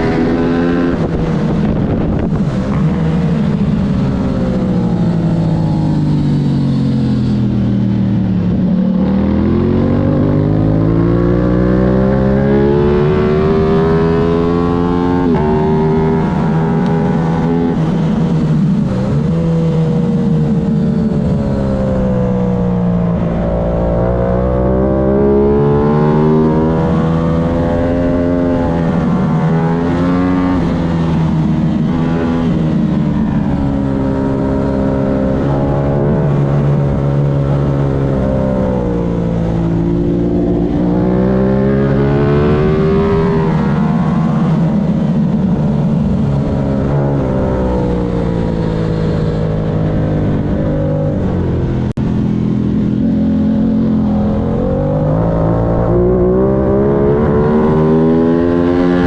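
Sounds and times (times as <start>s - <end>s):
race motorcycle engine revving: 8.5s - 59.0s.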